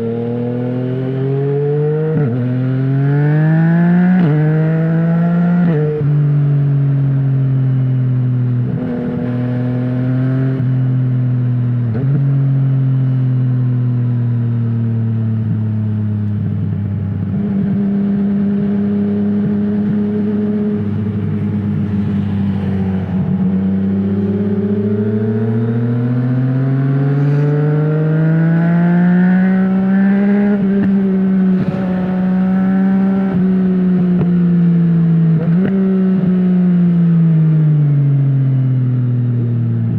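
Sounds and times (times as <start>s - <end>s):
motorcycle engine revving: 0.0s - 14.2s, 16.9s - 38.2s.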